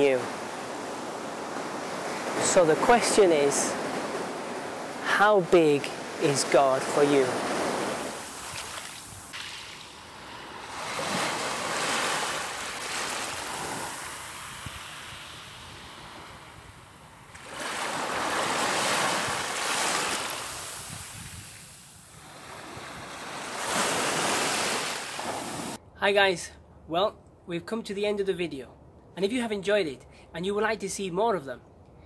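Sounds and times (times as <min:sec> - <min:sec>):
small waves on sandy beach: 0:00.0 - 0:25.8.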